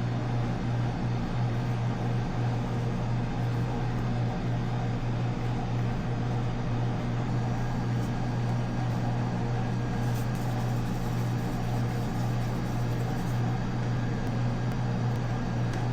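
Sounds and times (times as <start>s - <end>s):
low machine hum: 0.0s - 15.9s.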